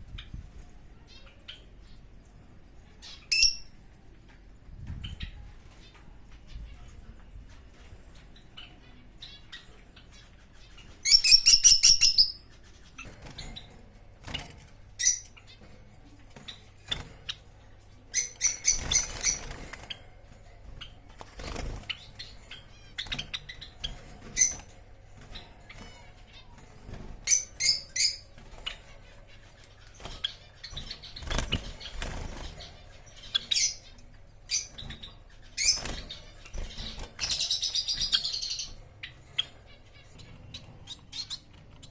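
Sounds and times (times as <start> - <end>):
pet birds chirping: 0.0 - 41.9.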